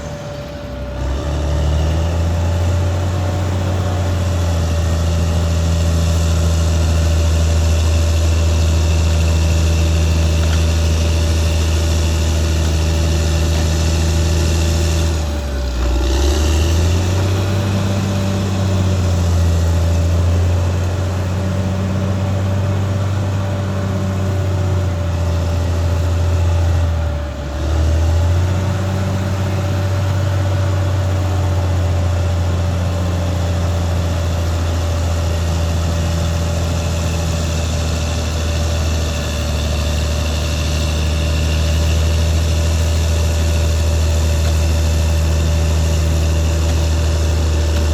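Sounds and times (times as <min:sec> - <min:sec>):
bulldozer diesel engine running: 0:00.0 - 0:47.9
high whine: 0:00.0 - 0:47.9.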